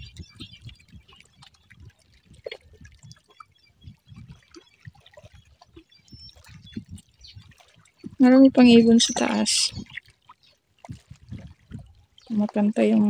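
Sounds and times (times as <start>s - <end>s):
faint little splashes: 0.0s - 13.0s
small waves lapping: 0.0s - 13.0s.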